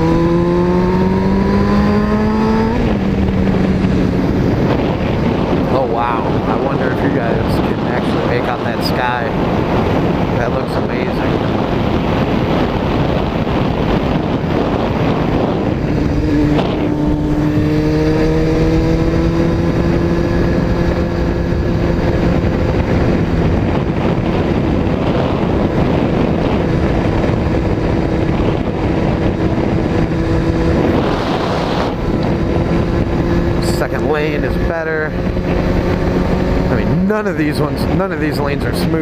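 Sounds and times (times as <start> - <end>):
motorcycle engine running: 0.0 - 39.0
wind rush on microphone: 0.0 - 39.0.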